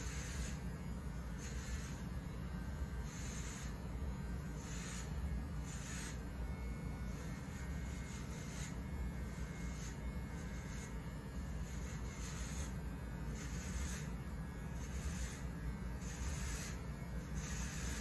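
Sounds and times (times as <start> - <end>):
shaver scratching through stubble: 0.0 - 2.2, 3.0 - 18.0
electric shaver humming: 0.0 - 18.0.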